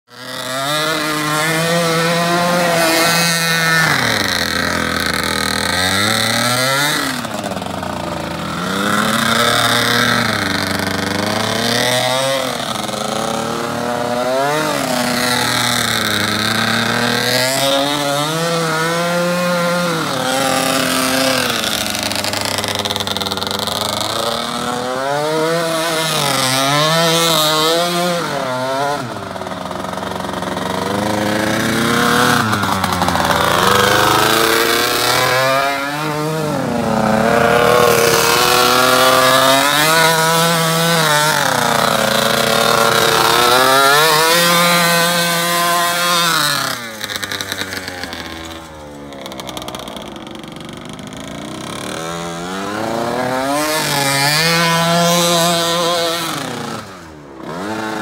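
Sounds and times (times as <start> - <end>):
small engine revving: 0.1 - 58.0.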